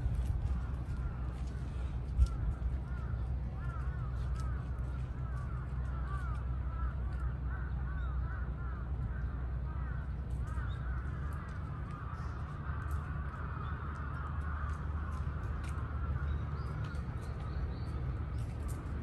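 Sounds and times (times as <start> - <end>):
steady low rumble: 0.0 - 19.0
birds calling: 0.2 - 19.0.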